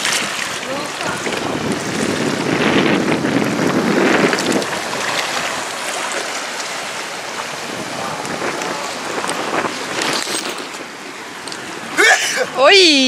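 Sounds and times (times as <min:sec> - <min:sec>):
waves washing against rocks: 0:00.0 - 0:13.0
wind on microphone: 0:00.0 - 0:13.0.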